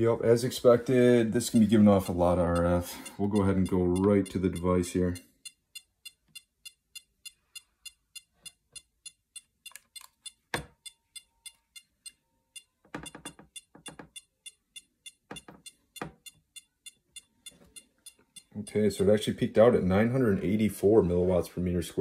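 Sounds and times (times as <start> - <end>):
rf meter clicking rapidly: 1.4 - 19.6.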